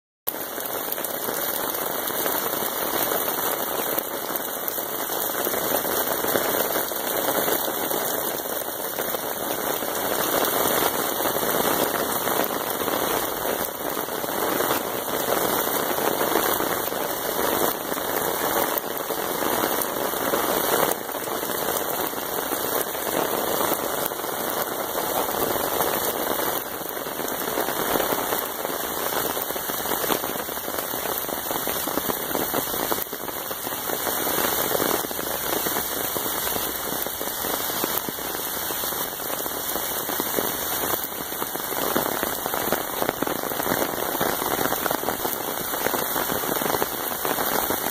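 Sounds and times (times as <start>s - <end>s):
heavy rain on plants and concrete: 0.3s - 47.9s.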